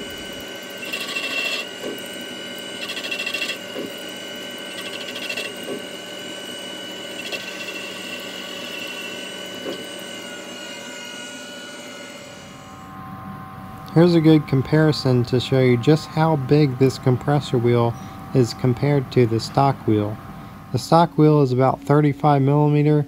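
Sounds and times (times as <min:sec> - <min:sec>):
metal cutting noise bursts: 0:00.0 - 0:21.1
lathe spindle whine: 0:00.0 - 0:23.0.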